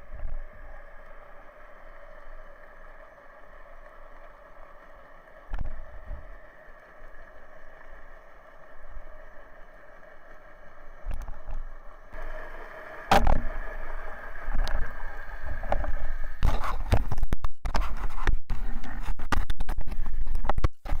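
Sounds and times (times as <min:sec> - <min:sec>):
underwater steady hum: 0:00.0 - 0:19.2.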